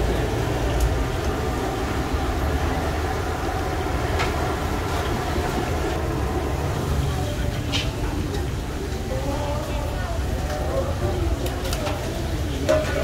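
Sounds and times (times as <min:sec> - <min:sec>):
street market ambience rumble: 0:00.0 - 0:13.0.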